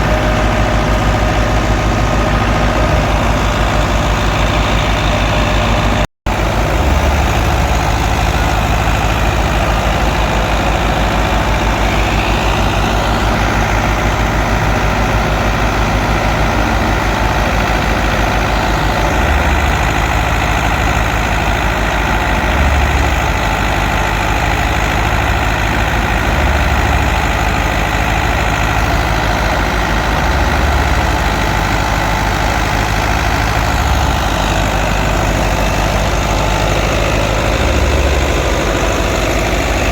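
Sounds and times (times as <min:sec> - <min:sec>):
diesel tractor engine running: 0:00.0 - 0:39.9
thresher working din: 0:00.0 - 0:39.9.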